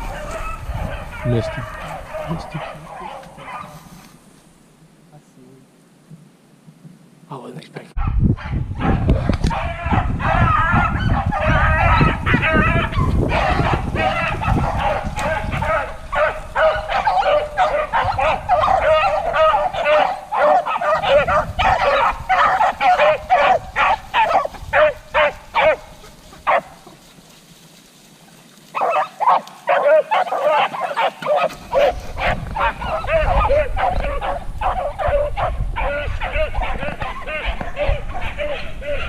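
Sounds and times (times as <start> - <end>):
pack of dogs baying: 0.0 - 4.1, 8.0 - 27.6, 28.6 - 39.0.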